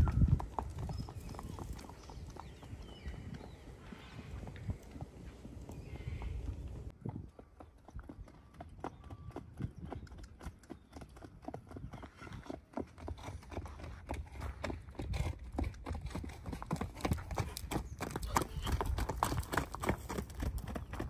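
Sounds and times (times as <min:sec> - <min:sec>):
horse hoofbeats on dirt: 0:00.0 - 0:21.0.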